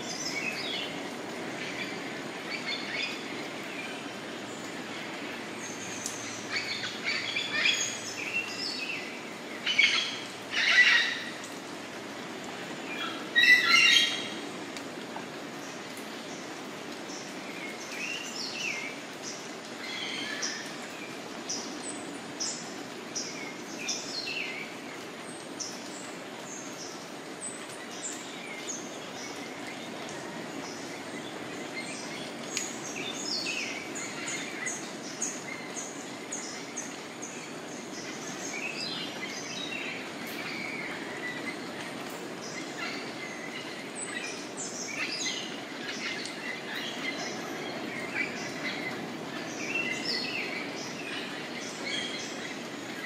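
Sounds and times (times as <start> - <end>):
forest background hiss: 0.0 - 53.0.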